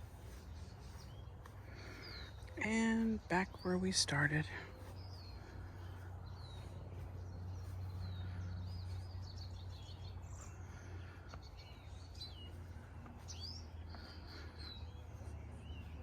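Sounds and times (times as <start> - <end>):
birds chirping and calling: 0.0 - 16.0
steady low hum: 0.0 - 16.0.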